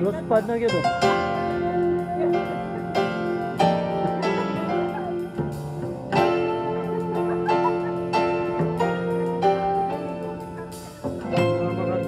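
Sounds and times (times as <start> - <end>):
instrumental melody of ringing notes: 0.0 - 12.0.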